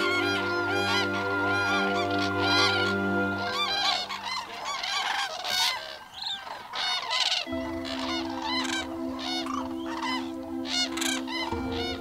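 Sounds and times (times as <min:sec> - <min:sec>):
held music chord: 0:00.0 - 0:05.6, 0:07.4 - 0:12.0
cranes trumpeting calls: 0:00.0 - 0:12.0.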